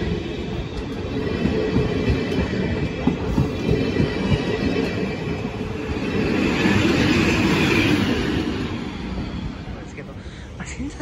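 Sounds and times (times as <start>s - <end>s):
train wheels clattering over rails: 0.0s - 9.8s.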